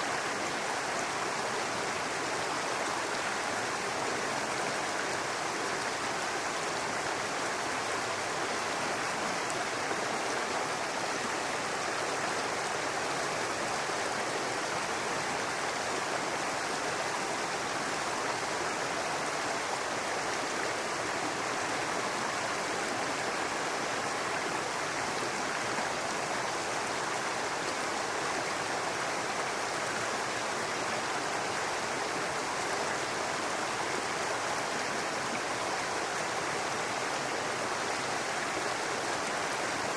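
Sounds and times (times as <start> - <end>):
brook running water: 0.0 - 39.9.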